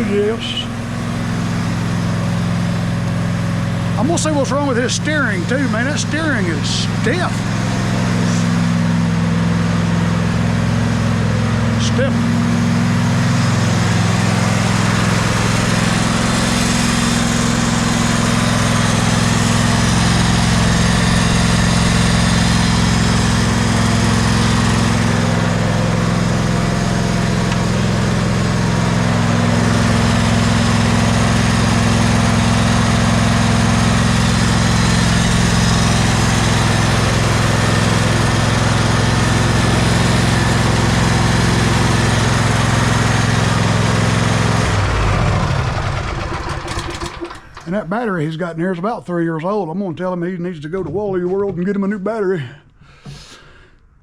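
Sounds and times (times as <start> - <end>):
riding mower engine running: 0.0 - 48.1.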